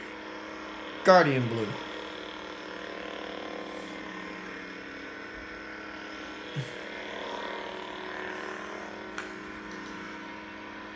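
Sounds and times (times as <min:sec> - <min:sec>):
lightsaber electric hum: 0:00.0 - 0:10.9.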